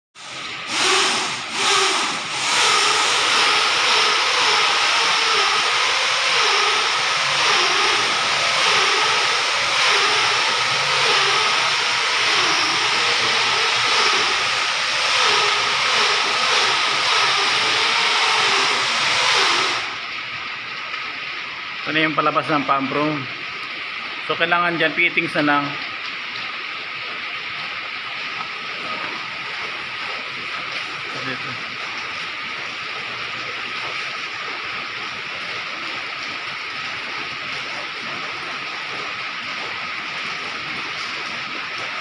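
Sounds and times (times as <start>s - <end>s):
industrial machinery hissing din: 0.2s - 20.7s, 21.4s - 42.0s.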